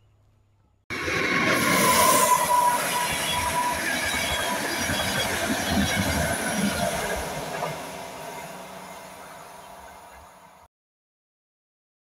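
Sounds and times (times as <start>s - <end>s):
train wheels rumbling on rails: 0.9s - 10.6s.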